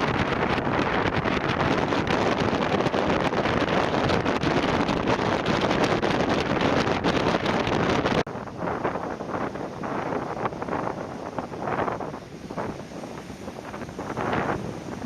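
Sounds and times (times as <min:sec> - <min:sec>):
wind pops on microphone: 0:00.0 - 0:15.0
wind roaring: 0:00.0 - 0:15.0.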